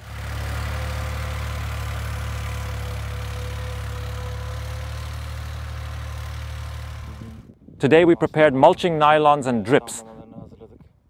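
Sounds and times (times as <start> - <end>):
tractor engine droning: 0.0 - 10.2.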